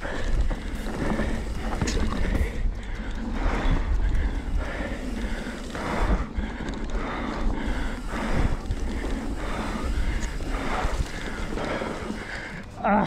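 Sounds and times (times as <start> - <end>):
wind rumbling over microphone: 0.0 - 12.7
rider breathing hard: 0.0 - 13.0.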